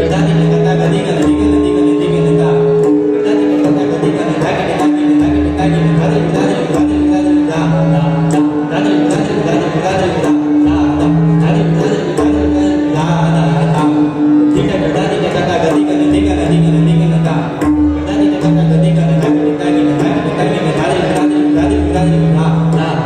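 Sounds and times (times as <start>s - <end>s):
harmonium looping melody: 0.0s - 23.0s.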